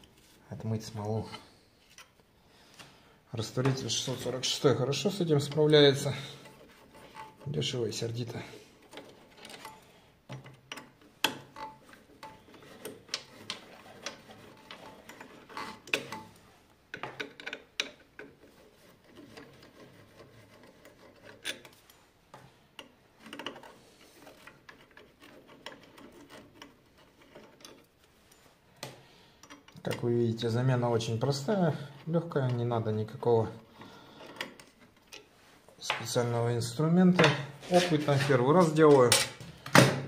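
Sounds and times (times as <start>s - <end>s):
hand tools scraping and clicking on steel: 3.4s - 36.3s, 37.0s - 39.5s.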